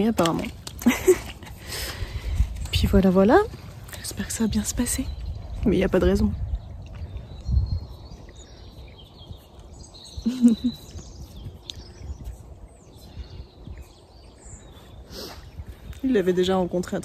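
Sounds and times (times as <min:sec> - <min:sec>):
small birds chirping: 0:00.0 - 0:17.0
wind rumble on microphone: 0:00.0 - 0:17.0.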